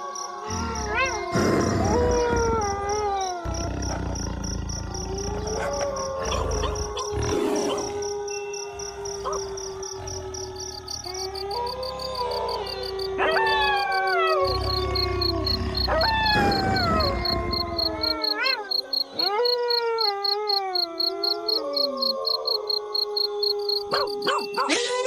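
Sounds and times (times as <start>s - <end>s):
insect trill: 0.0s - 24.8s
wolves howling: 0.0s - 24.8s.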